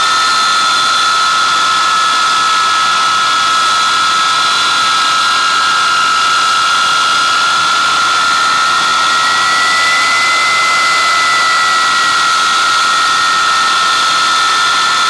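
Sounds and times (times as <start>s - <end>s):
jet engines roaring with whine: 0.0s - 15.0s.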